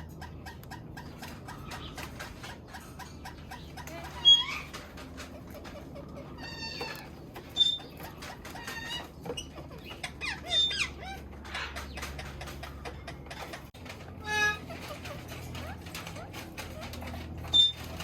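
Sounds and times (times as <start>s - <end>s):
parrots squawking and whistling: 0.0s - 18.0s.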